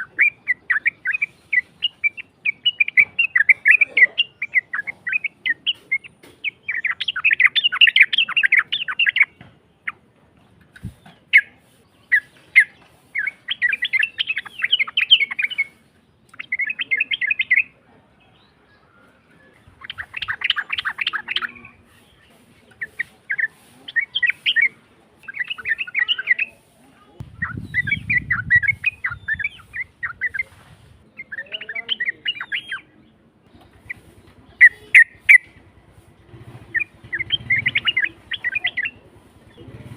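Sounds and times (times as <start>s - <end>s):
bird harsh chattering song: 0.0s - 39.9s.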